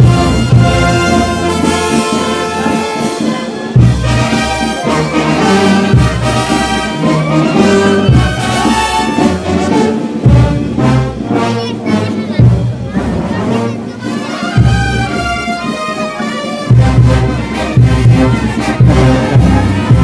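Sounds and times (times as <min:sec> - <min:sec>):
brass band playing carnival music: 0:00.0 - 0:20.0.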